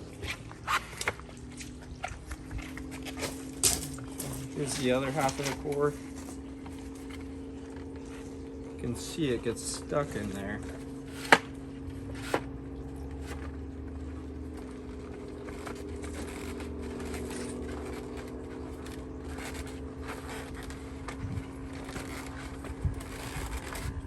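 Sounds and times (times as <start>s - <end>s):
plastic scraping: 0.0s - 24.0s
steady low hum: 0.0s - 24.0s.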